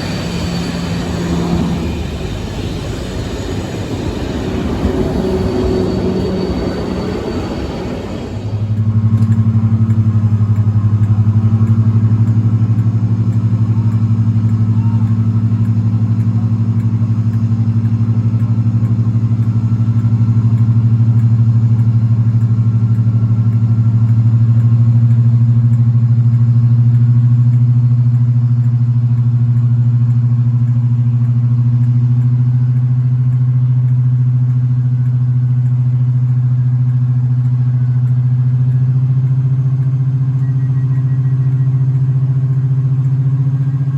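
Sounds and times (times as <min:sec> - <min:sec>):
diesel locomotive engines droning: 0:00.0 - 0:43.9.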